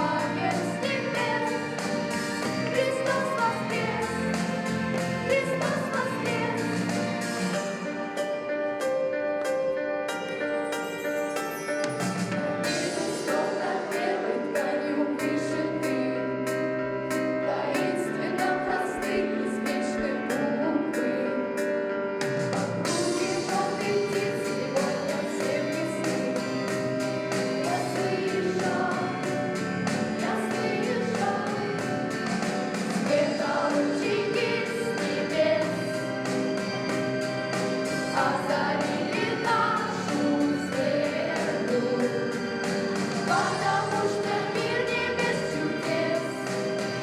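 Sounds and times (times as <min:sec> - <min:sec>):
choir singing: 0:00.0 - 0:08.3, 0:12.6 - 0:21.7, 0:22.8 - 0:47.0
instrumental accompaniment: 0:00.0 - 0:47.0.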